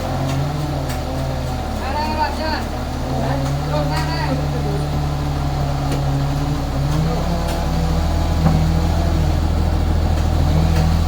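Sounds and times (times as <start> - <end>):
machinery engine droning: 0.0 - 11.0.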